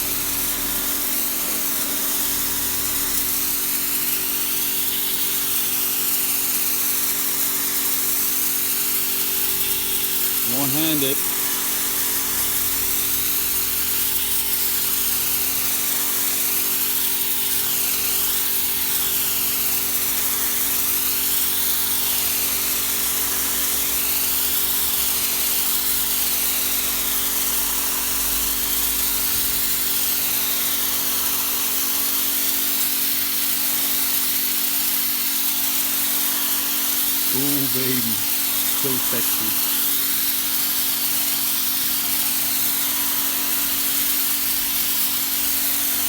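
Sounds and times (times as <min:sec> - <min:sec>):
pressure washer machine hum: 0:00.0 - 0:46.0
water jet hissing on paving: 0:00.0 - 0:46.0.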